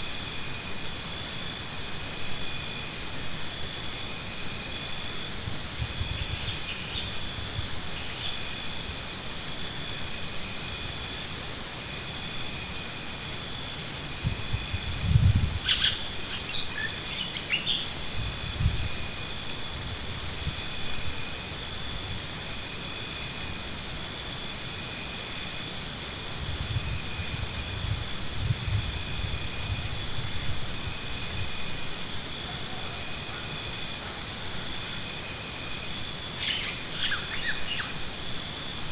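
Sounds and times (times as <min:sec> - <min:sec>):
insects chirping in trills: 0:00.0 - 0:38.9.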